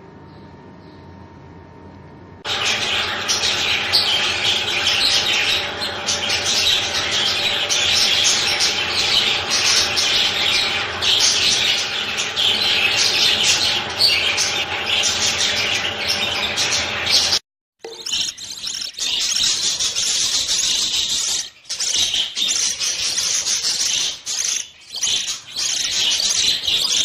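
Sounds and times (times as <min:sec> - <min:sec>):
budgerigars twittering: 0:02.5 - 0:27.0.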